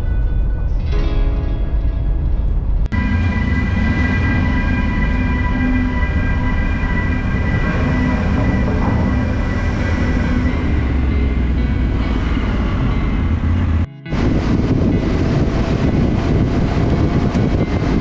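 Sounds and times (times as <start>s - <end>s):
wind noise: 0.0s - 18.0s
constant whining tones: 1.8s - 18.0s.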